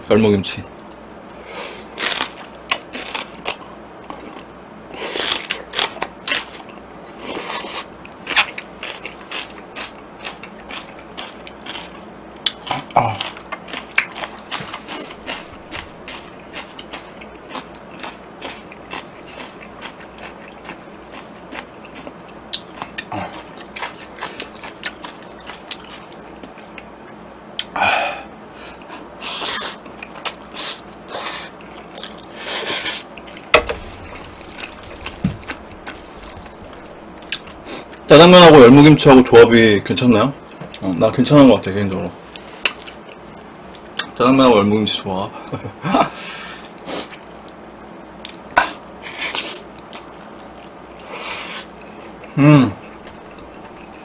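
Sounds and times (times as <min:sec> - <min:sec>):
chewing crunchy food: 0:00.8 - 0:27.8, 0:28.7 - 0:39.2, 0:40.4 - 0:44.2, 0:46.6 - 0:54.0.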